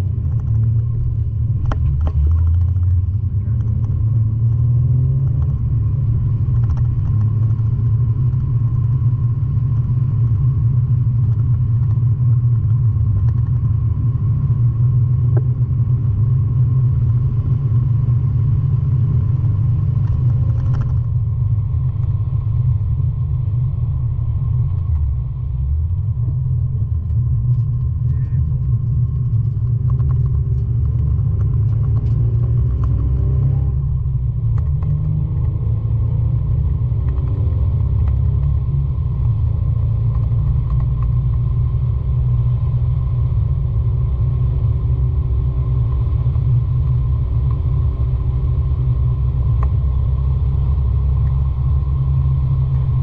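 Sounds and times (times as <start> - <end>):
car engine: 0.0 - 53.0
road noise: 0.0 - 53.0.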